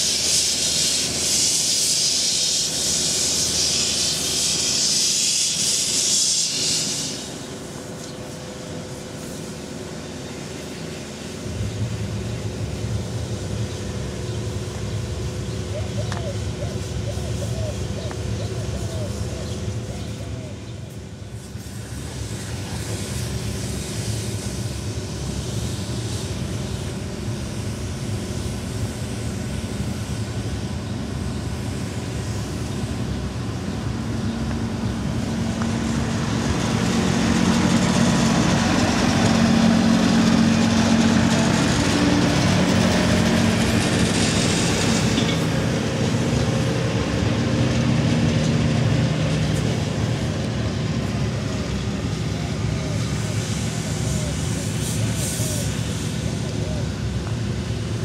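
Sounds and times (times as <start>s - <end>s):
hiss: 0.0s - 15.2s, 16.7s - 48.4s, 49.0s - 58.0s
engine running steadily: 0.0s - 58.0s.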